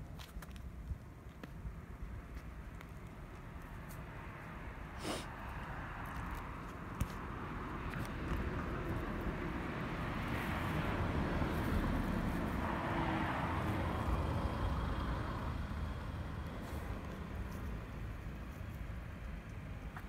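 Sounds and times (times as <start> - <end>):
road vehicle passing: 3.3 - 20.0.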